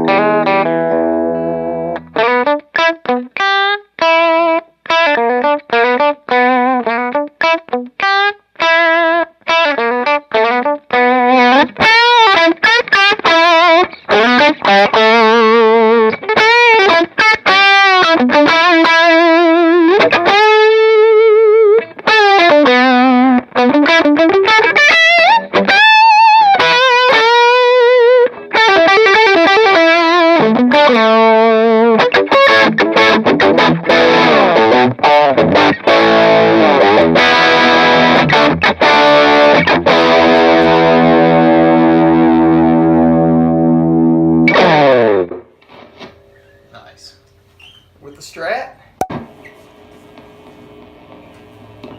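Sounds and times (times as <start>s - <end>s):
electric guitar strummed chords: 0.0s - 46.2s, 49.0s - 49.6s
electric guitar lead lines: 0.0s - 47.0s, 49.0s - 51.9s.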